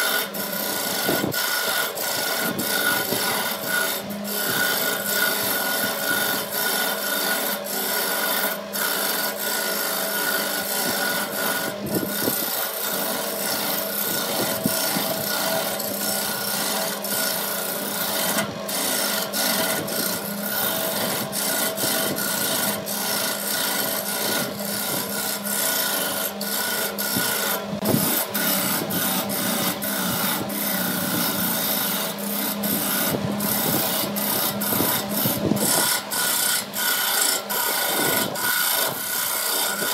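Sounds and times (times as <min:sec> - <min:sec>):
turning tool scraping spinning wood: 0:00.0 - 0:39.9
wood lathe humming: 0:00.0 - 0:39.9.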